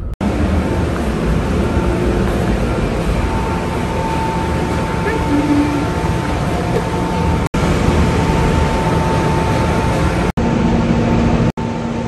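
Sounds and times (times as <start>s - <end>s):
thin steady whine: 0.0s - 12.0s
ventilation fans humming: 0.0s - 12.0s.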